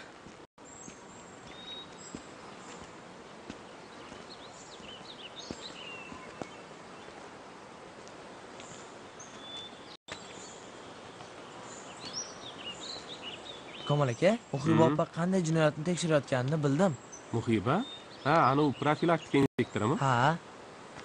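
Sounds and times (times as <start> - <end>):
soft steady hiss: 0.0 - 21.0.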